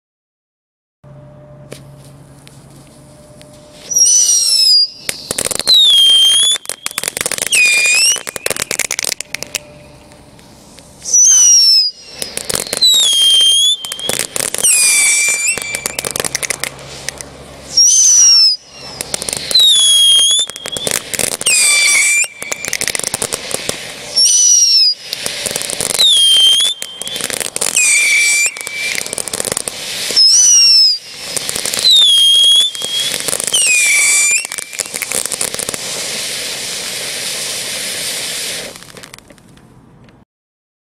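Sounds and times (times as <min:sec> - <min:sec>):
firework crackling: 0:01.7 - 0:39.8
firework whistles: 0:03.0 - 0:39.5.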